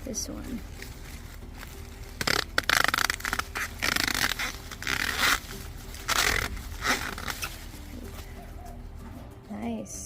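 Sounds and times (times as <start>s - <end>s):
corn husk rustling and scraping: 0.0s - 9.0s.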